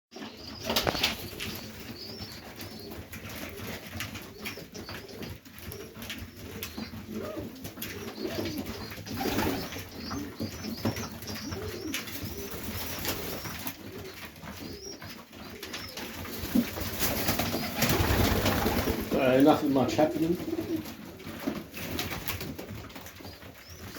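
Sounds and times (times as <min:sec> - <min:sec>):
pigeons cooing: 0:00.2 - 0:22.4.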